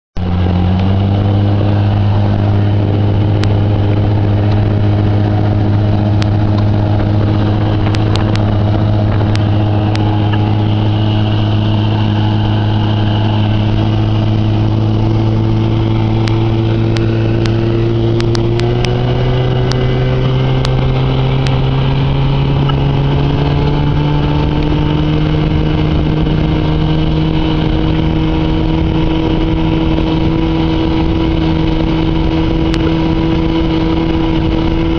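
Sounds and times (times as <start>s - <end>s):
outboard motor running: 0.2s - 34.9s.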